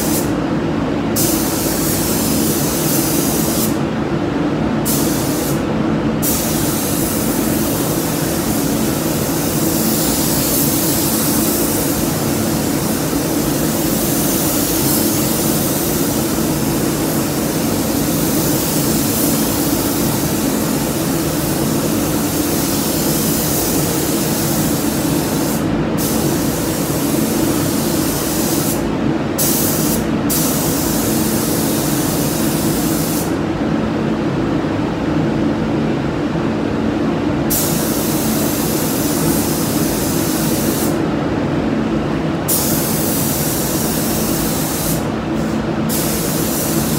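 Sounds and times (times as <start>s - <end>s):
spray gun hissing: 0.0s - 0.3s, 1.2s - 3.8s, 4.8s - 5.6s, 6.2s - 28.8s, 29.4s - 33.3s, 37.5s - 41.0s, 42.5s - 46.9s.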